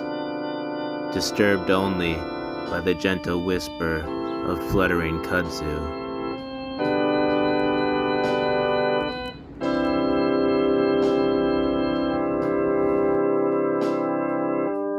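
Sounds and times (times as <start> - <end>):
organ-like keyboard chords: 0.0 - 14.9.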